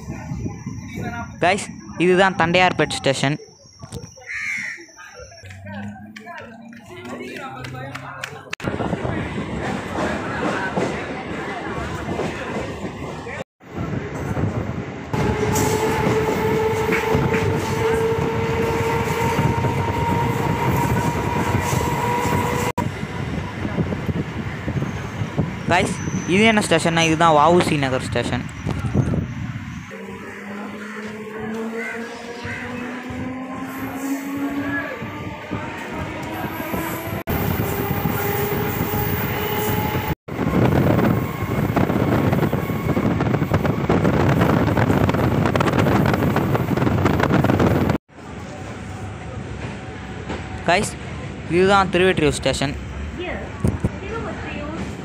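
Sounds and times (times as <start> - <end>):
train wheel and rail rumble: 0.0 - 55.0.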